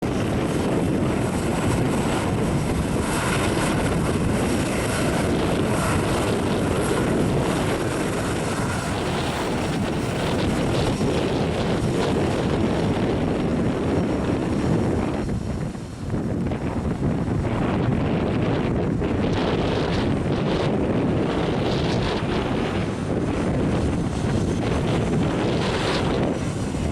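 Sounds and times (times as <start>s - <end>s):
jet engines running: 0.0s - 26.9s
wind on microphone: 0.0s - 26.9s.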